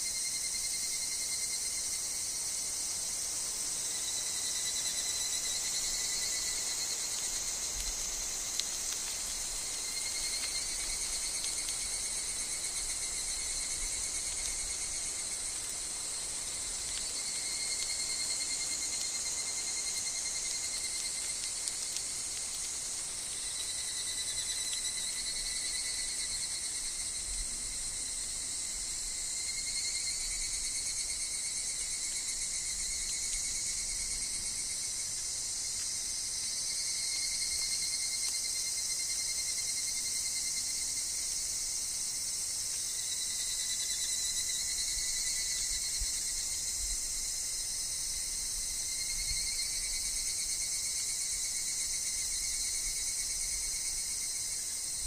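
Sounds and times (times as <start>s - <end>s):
cicadas droning: 0.0s - 55.0s
ringing pulsing cicada calls: 0.0s - 55.0s.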